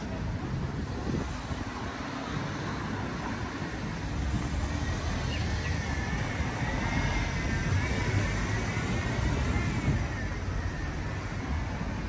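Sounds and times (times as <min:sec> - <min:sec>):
car traffic rumble: 0:00.0 - 0:12.0.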